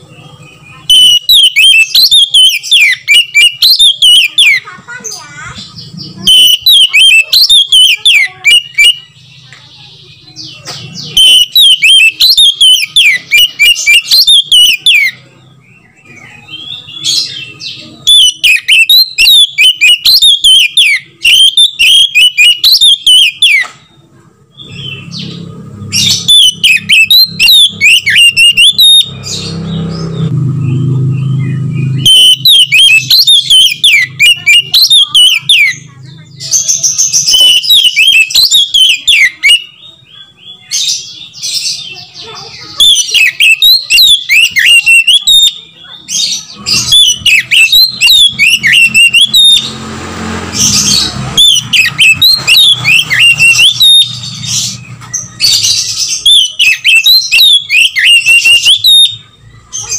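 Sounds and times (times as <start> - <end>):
bird singing whistled notes: 0.0 - 4.7, 5.5 - 23.8, 24.5 - 42.0, 42.6 - 59.9.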